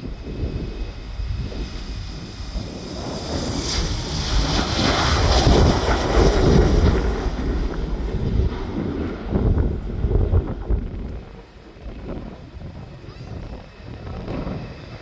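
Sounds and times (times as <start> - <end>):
jet airliner engines roaring: 0.0 - 15.0
wind buffeting microphone: 0.0 - 15.0.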